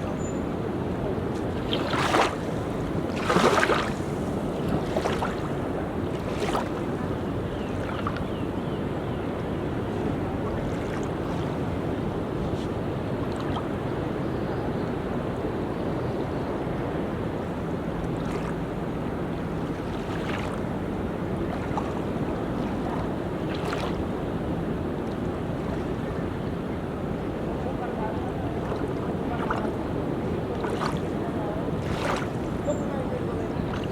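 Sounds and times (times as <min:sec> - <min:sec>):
sea waves washing onto beach: 0:00.0 - 0:33.9
wind on microphone: 0:00.0 - 0:33.9.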